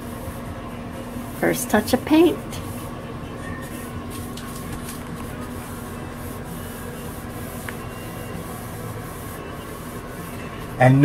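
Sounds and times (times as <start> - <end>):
steady low hum: 0.0 - 11.0
paintbrush swishing on wall: 1.1 - 11.0.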